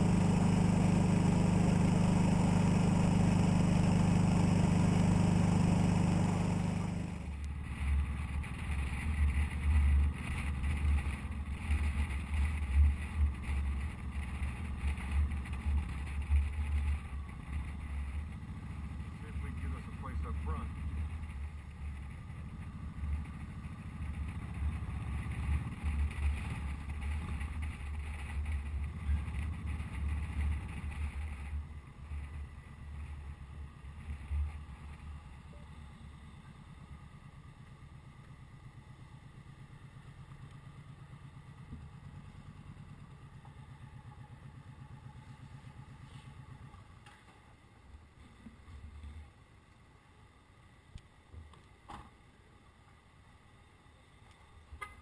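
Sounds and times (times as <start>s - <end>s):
motorcycle engine rumbling: 0.0s - 49.5s.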